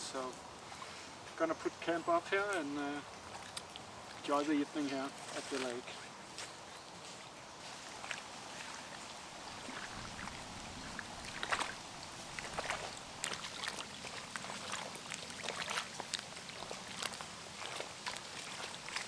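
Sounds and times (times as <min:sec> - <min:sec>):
faint water trickle: 0:00.0 - 0:19.0
water splashes and drips: 0:00.0 - 0:19.0.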